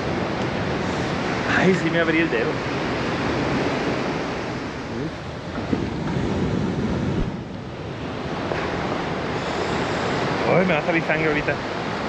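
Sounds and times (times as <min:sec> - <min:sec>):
surf breaking on rocky shore: 0:00.0 - 0:12.0
wind buffeting microphone: 0:00.0 - 0:12.0.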